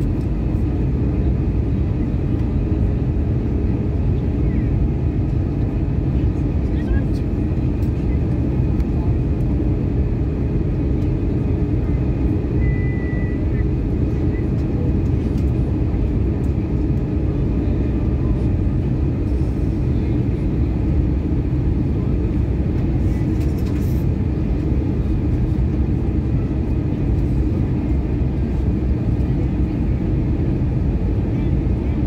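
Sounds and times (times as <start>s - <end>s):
airplane cabin roar: 0.0s - 32.0s.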